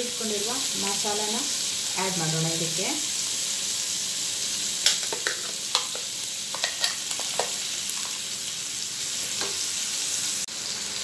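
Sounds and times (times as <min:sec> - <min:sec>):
prawns sizzling in a frying pan: 0:00.0 - 0:11.0.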